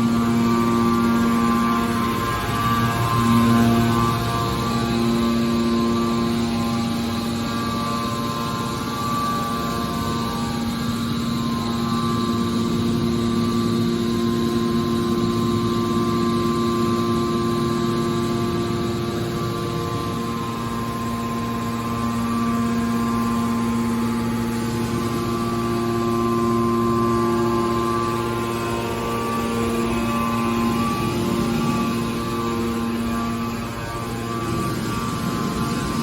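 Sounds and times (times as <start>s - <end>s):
hydraulic power unit humming: 0.0s - 36.0s.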